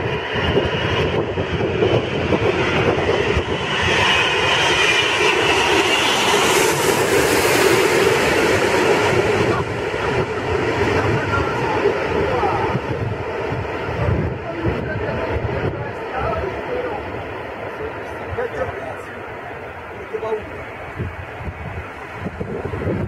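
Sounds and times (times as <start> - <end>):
jet engine rush overhead: 0.0 - 23.0.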